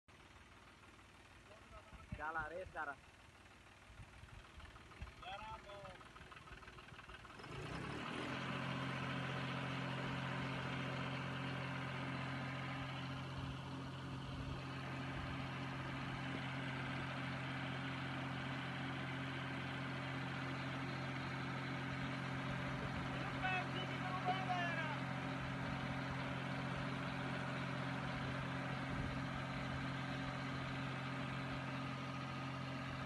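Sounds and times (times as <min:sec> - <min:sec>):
diesel tractor engine idling: 0:00.1 - 0:33.0.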